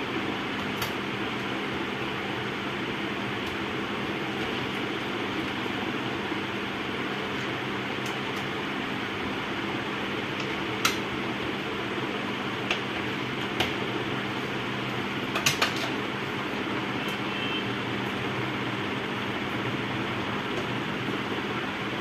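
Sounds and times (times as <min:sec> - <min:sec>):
fan-like hum: 0:00.0 - 0:22.0.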